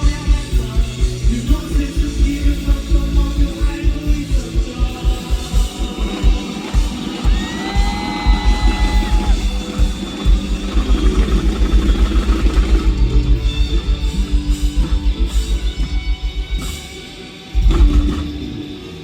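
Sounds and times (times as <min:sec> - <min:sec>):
fast kick drum: 0:00.0 - 0:16.4
electric guitar: 0:00.0 - 0:19.0
rock band playing: 0:00.0 - 0:19.0.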